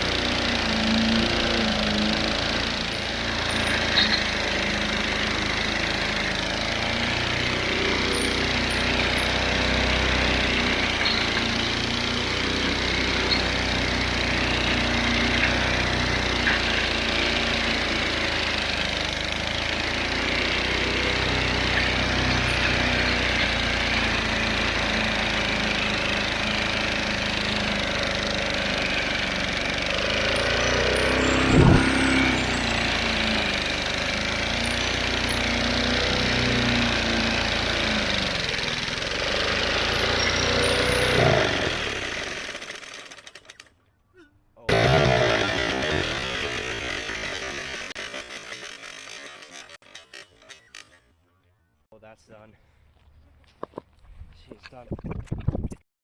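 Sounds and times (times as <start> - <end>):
lawnmower engine running flat out: 0.0 - 43.7, 44.7 - 51.1.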